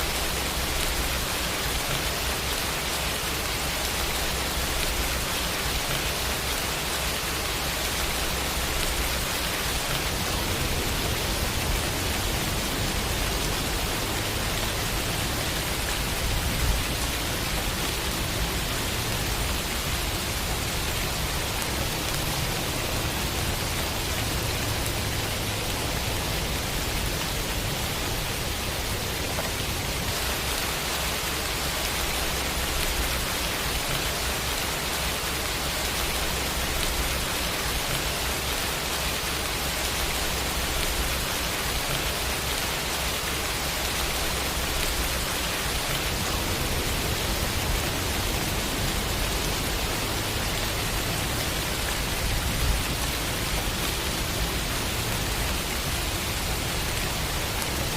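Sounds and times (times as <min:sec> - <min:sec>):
rain hissing: 0:00.0 - 0:57.9.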